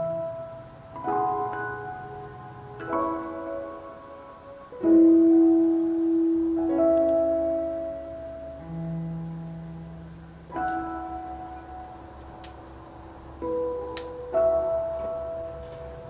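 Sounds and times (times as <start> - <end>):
slow instrumental music chords: 0.0 - 16.0.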